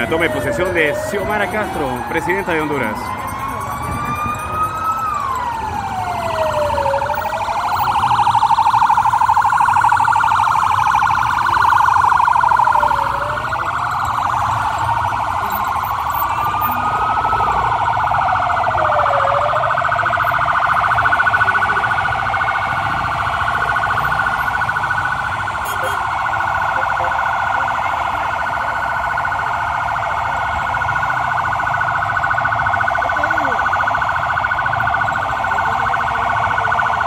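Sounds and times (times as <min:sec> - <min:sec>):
police siren wailing: 0:00.0 - 0:37.0
siren rapid warble: 0:00.0 - 0:37.0.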